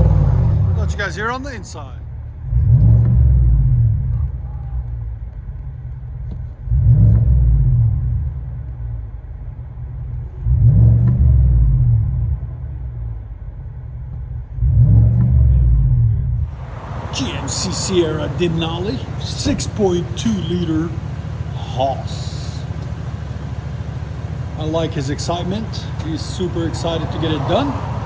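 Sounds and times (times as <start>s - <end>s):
engine revving and idling: 0.0s - 28.0s.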